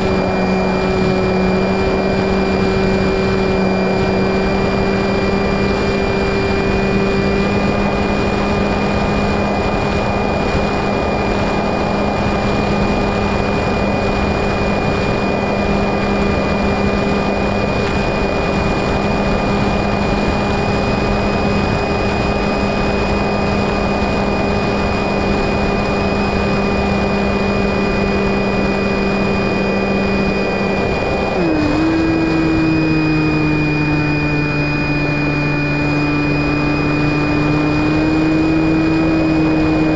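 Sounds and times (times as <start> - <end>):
electric motor and propeller whirring: 0.0 - 39.9
wind rushing over microphone: 0.0 - 39.9.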